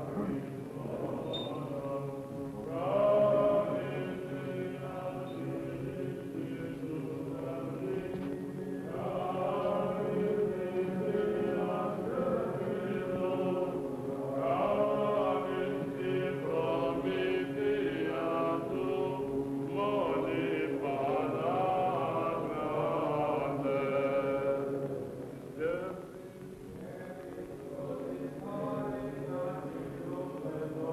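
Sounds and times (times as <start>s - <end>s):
held vocal drone: 0.0s - 30.9s
men chanting a melodic line: 0.0s - 30.9s.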